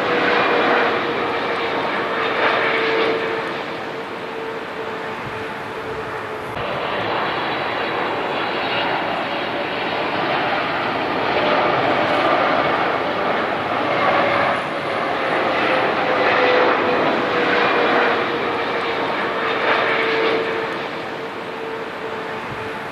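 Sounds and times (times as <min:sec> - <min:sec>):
jet airliner passing overhead: 0:00.0 - 0:22.9.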